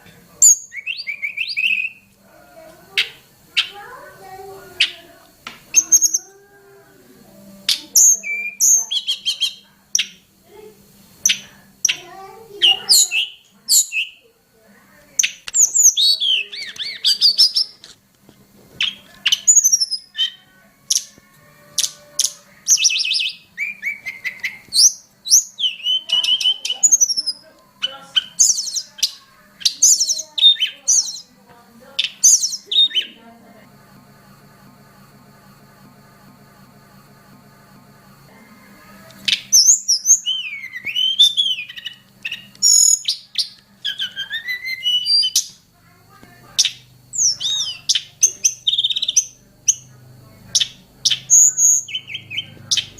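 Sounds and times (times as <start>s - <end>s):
faint low hum: 0.0s - 52.9s
songbird singing: 0.4s - 10.3s, 11.2s - 14.3s, 15.0s - 17.9s, 18.8s - 33.6s, 39.1s - 45.7s, 46.5s - 52.9s.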